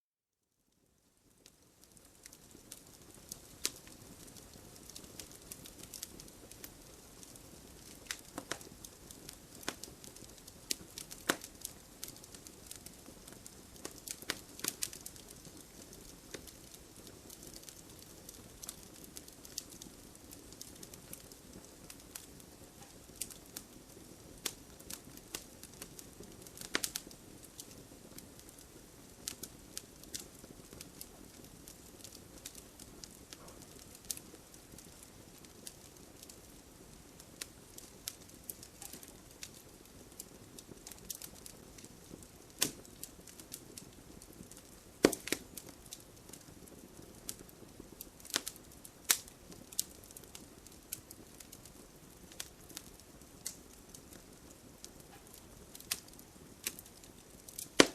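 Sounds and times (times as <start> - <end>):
fire crackling and popping: 0.7 - 57.9
flames rustling: 1.0 - 57.9.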